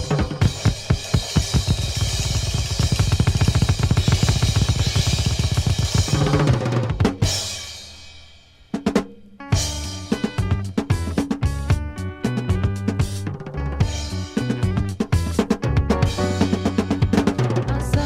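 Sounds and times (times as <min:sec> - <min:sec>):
drum kit playing: 0:00.0 - 0:18.0.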